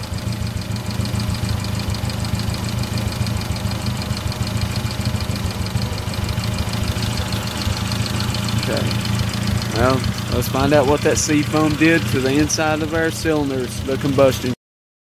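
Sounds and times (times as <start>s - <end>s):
car engine droning: 0.0s - 14.6s
rapid light engine ticking: 0.0s - 14.6s.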